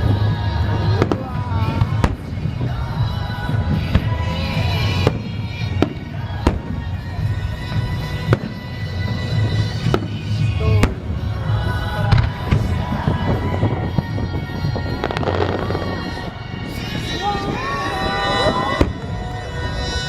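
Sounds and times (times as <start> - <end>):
music: 0.0 - 20.0.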